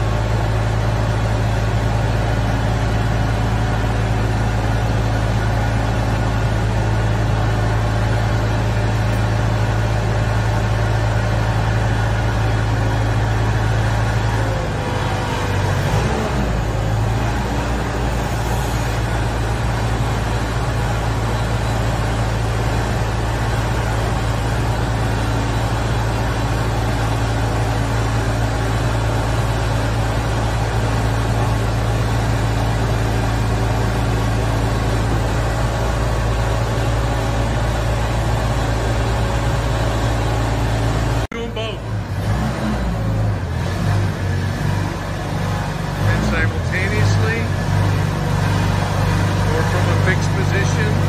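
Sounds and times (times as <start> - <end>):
forklift engine humming: 0.0 - 51.0.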